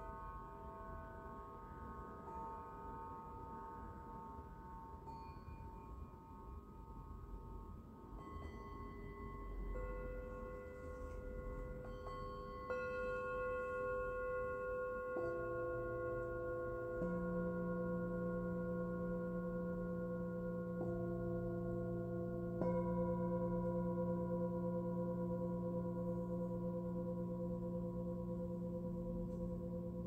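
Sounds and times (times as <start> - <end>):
singing bowls ringing: 0.0 - 30.0.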